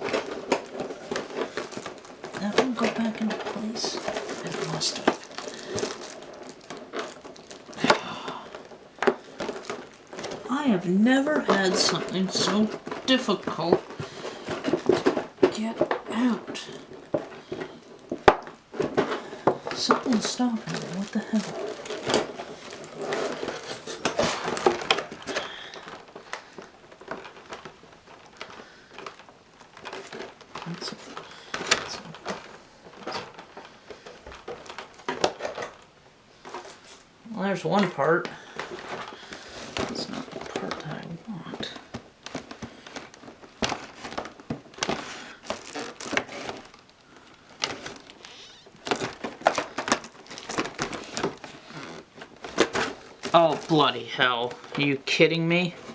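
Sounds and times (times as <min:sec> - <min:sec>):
packaging rustling and clicking: 0:00.0 - 0:55.9.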